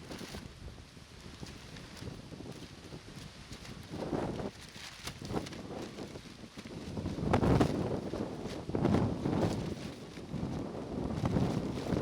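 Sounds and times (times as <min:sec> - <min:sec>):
raincoat flapping: 0:00.0 - 0:00.4, 0:01.1 - 0:12.0
gusty wind buffeting microphone: 0:00.0 - 0:12.0.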